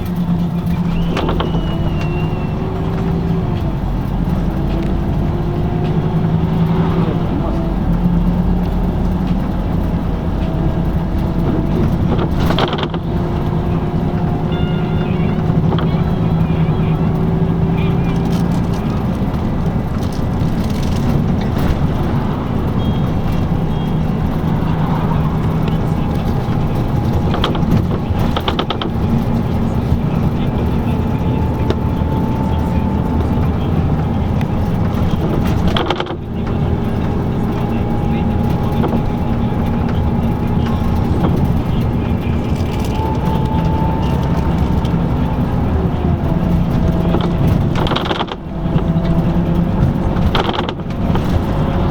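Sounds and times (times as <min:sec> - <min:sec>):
bus engine drone: 0:00.0 - 0:51.9
rattles clattering: 0:00.0 - 0:51.9
road noise: 0:00.0 - 0:51.9.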